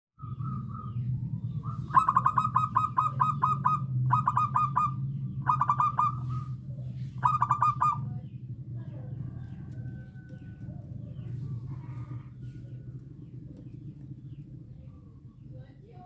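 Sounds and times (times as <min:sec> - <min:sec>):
dove cooing: 0:00.2 - 0:15.5
steady low hum: 0:00.2 - 0:16.0.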